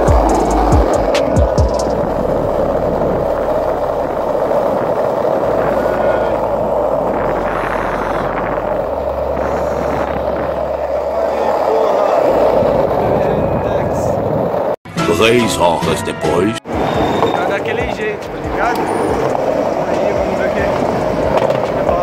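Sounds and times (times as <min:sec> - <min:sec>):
skateboard wheels on asphalt: 0:00.0 - 0:14.8, 0:16.6 - 0:22.0.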